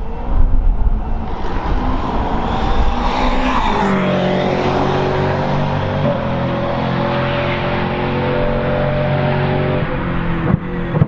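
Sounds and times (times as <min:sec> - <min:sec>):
race car engine approaching: 0:00.0 - 0:11.0.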